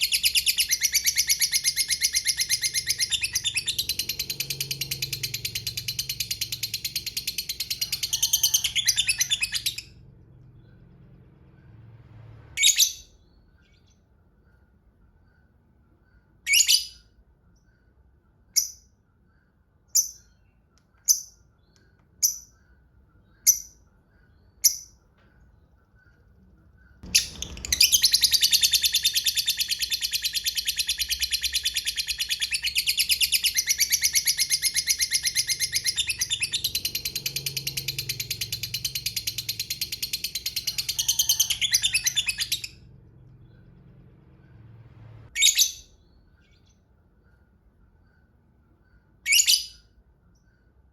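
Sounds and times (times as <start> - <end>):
lovebird chirps: 0.0 - 12.0, 12.6 - 50.9.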